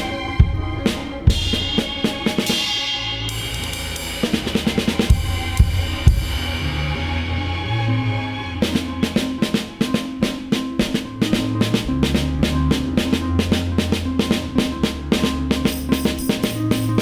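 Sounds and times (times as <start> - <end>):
drum kit beat: 0.0 - 6.6, 8.6 - 17.0.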